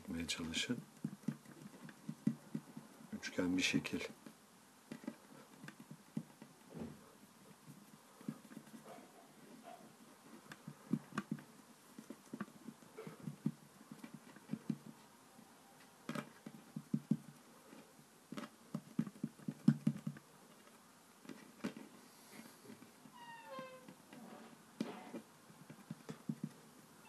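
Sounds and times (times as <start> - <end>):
fingers patting play dough: 0.0 - 15.2, 15.8 - 23.1, 24.8 - 26.9.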